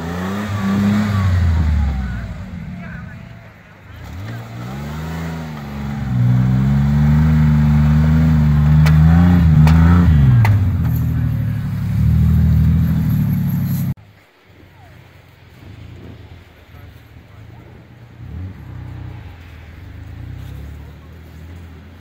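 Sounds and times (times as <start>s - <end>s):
car engine revving: 0.0s - 14.0s, 15.5s - 22.0s.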